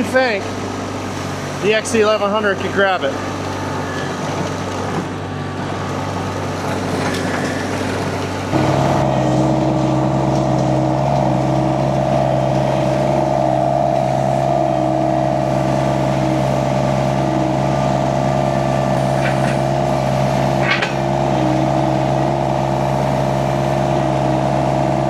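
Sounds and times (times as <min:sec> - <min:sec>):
skid steer engine revving: 0:00.0 - 0:25.0.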